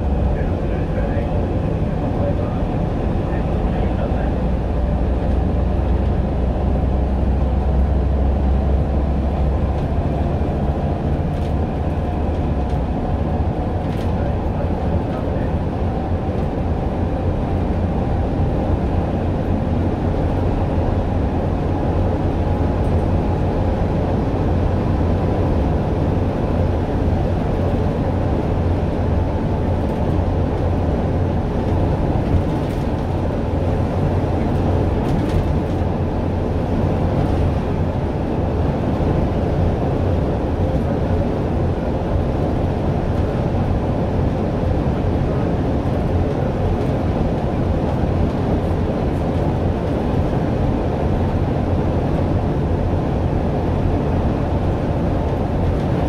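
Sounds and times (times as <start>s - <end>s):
bus rumbling on concrete track: 0.0s - 56.0s.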